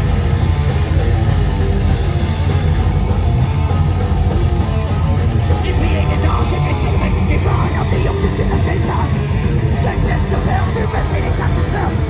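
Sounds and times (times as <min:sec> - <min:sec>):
bass guitar: 0:00.0 - 0:12.0
distorted electric guitar: 0:00.0 - 0:12.0
drums: 0:00.0 - 0:12.0.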